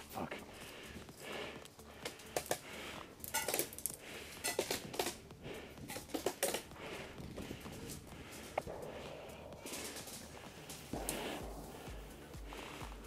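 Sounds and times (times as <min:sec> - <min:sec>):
light clicks and knocks of gear: 0:00.0 - 0:13.0.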